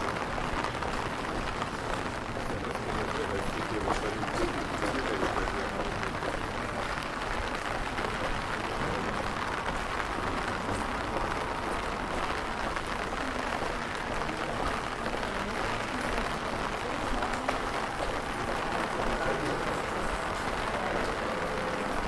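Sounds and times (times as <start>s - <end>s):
rain on cobblestones: 0.0s - 22.0s.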